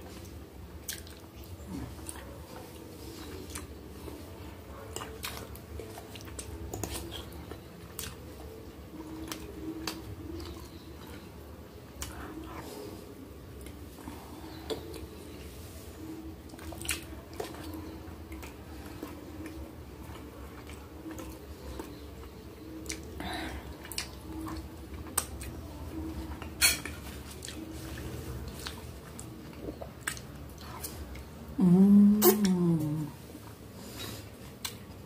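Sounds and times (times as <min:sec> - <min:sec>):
chewing: 0:00.0 - 0:31.6, 0:32.2 - 0:35.0.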